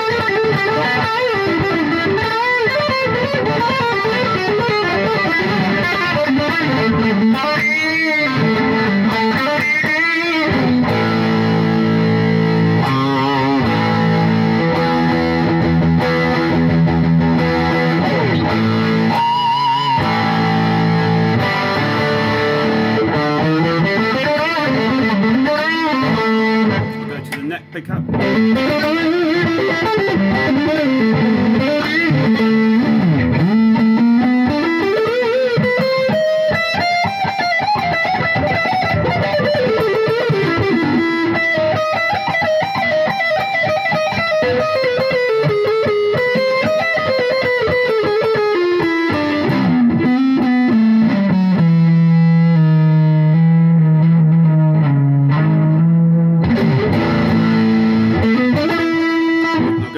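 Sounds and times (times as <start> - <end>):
distorted electric guitar lead: 0.0 - 59.9.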